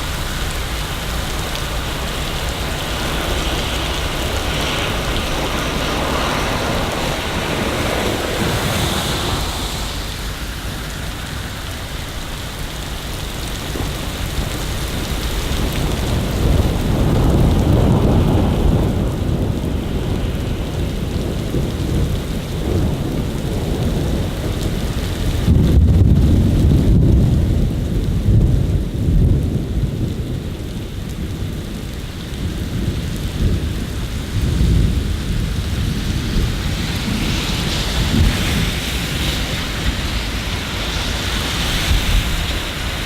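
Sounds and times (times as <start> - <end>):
deep rumble of thunder: 0.0 - 43.0
steady rain: 0.0 - 43.0.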